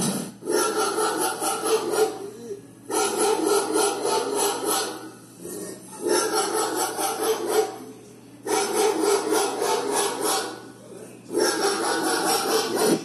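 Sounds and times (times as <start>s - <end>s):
recorded dogs barking over speakers: 0.3s - 13.0s.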